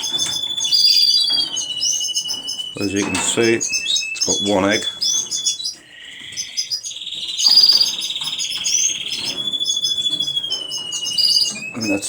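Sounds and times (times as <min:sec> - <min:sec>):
canaries singing and trilling: 0:00.0 - 0:12.0
high bird chirps: 0:00.0 - 0:12.0.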